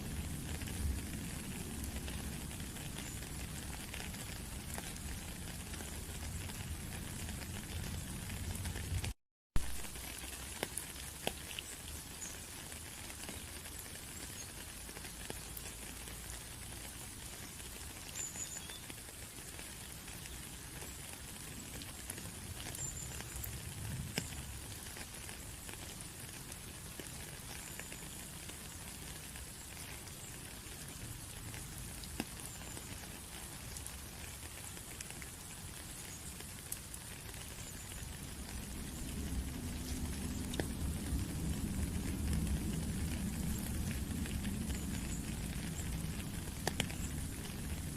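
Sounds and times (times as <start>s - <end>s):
sharp ticks of raindrops: 0.0s - 47.9s
steady rain pattering: 0.0s - 47.9s.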